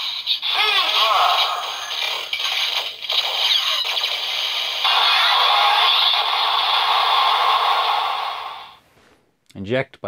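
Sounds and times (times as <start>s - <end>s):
loud noisy electronic blast: 0.4s - 8.8s.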